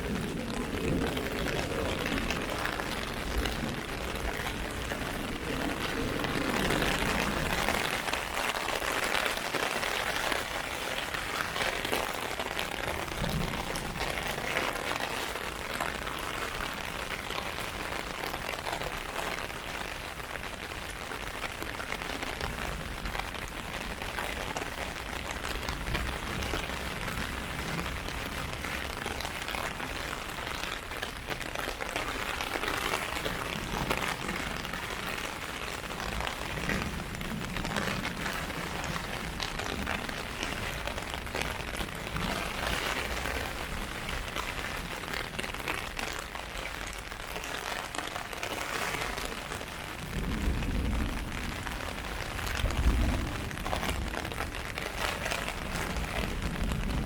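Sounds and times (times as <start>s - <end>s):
rain pattering on an umbrella: 0.0s - 57.0s.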